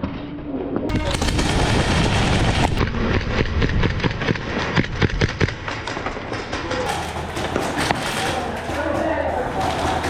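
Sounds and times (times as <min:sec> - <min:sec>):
airsoft guns firing: 0:00.9 - 0:10.0.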